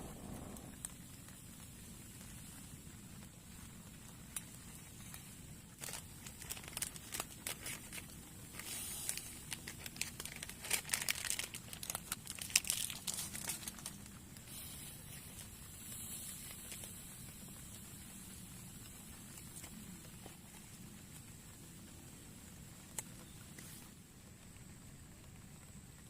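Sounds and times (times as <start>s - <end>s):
crinkling handling noise: 0.4s - 24.4s.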